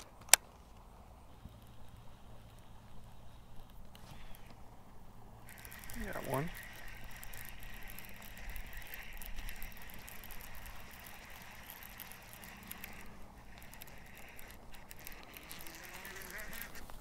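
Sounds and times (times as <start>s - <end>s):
fishing reel cranking with rattle: 1.3s - 4.6s, 5.2s - 17.0s.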